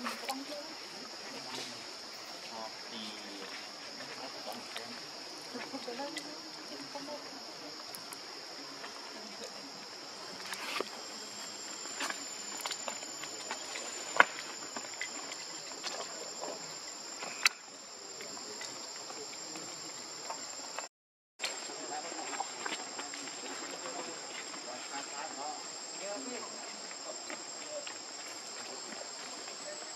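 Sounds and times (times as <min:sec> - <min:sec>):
insects droning: 0:00.0 - 0:29.9.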